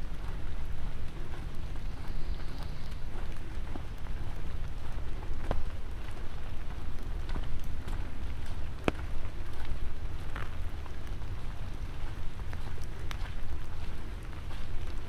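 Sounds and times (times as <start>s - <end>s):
light rain falling: 0.0s - 15.0s
steady low rumble: 0.0s - 15.0s.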